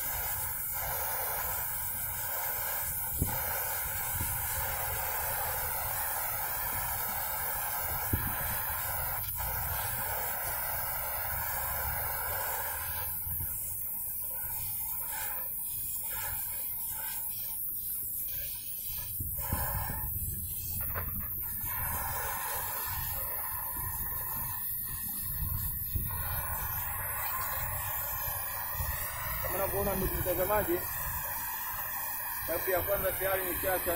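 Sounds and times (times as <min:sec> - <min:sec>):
welding torch flame hissing: 0:00.0 - 0:33.9.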